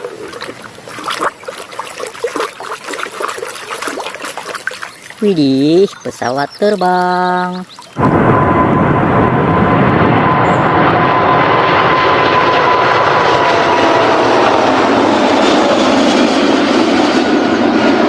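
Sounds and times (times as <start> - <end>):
airplane engine noise: 0.0 - 18.0.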